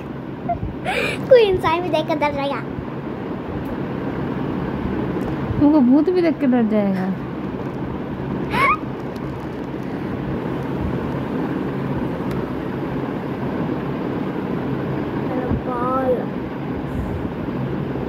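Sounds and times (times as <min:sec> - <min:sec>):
steady rumbling: 0:00.0 - 0:18.0.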